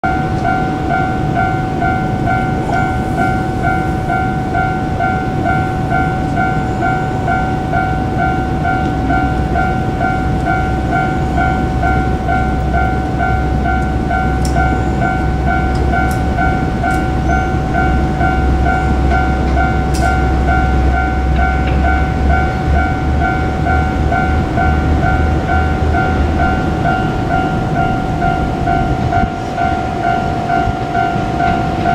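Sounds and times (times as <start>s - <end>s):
diesel railcar rumble: 0.0s - 31.9s
level-crossing bell ringing: 0.0s - 31.9s.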